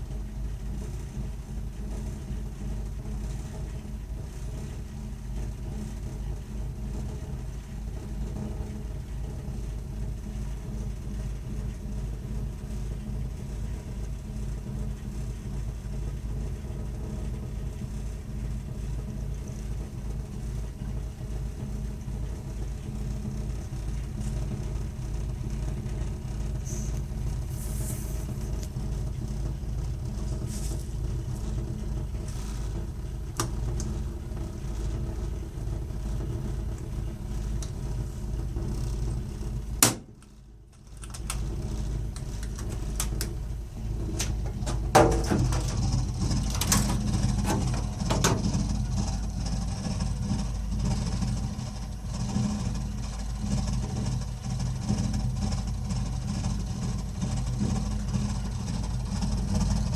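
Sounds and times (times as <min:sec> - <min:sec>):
boiler rumbling: 0:00.0 - 0:59.9.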